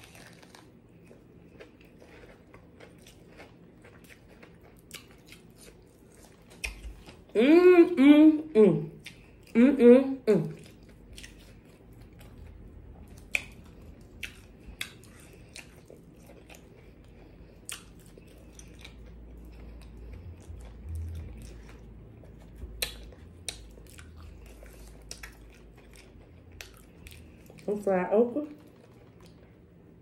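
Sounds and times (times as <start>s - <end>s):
crunchy chewing: 0.0s - 7.3s, 10.5s - 27.7s, 28.5s - 29.8s.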